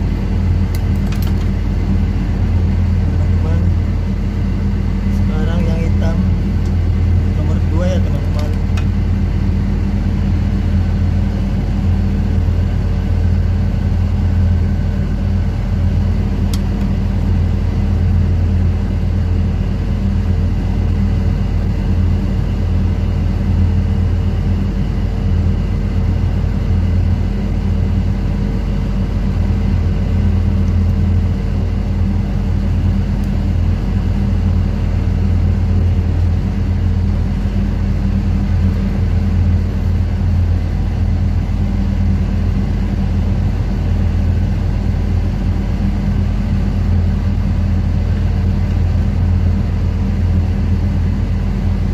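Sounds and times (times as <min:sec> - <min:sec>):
ship machinery low drone: 0:00.0 - 0:51.9.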